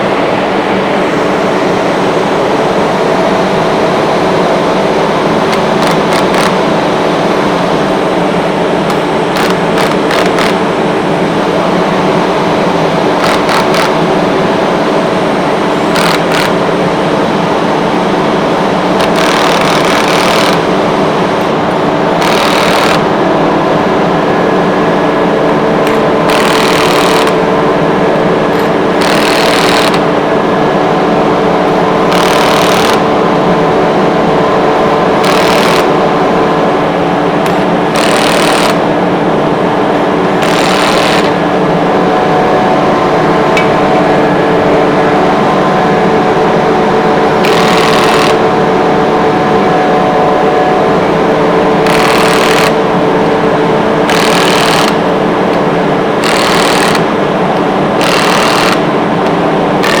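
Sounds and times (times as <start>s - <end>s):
air compressor humming: 0.0s - 60.0s.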